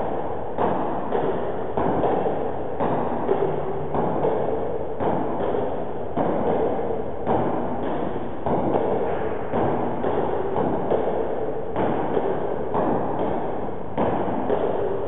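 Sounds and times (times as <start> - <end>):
steady background noise: 0.0 - 15.0
table tennis ball hits: 0.6 - 15.0.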